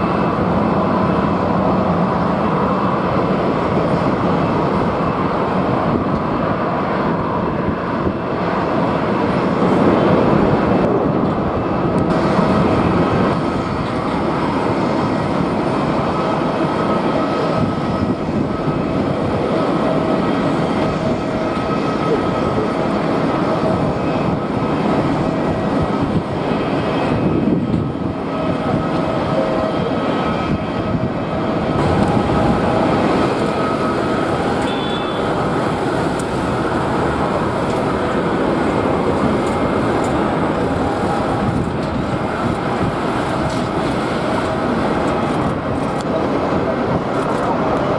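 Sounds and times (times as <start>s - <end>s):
jet engines whining: 0.0s - 47.9s
wind buffeting microphone: 0.0s - 47.9s.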